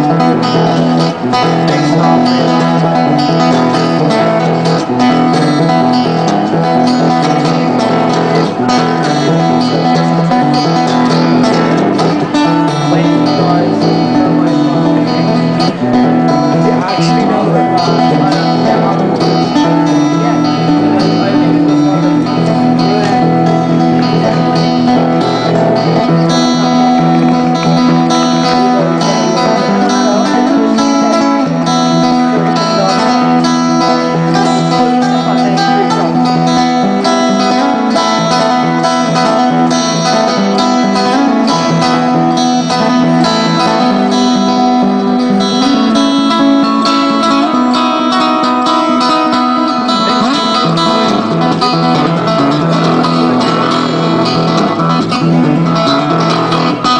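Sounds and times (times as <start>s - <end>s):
acoustic guitar picking: 0.0s - 56.9s.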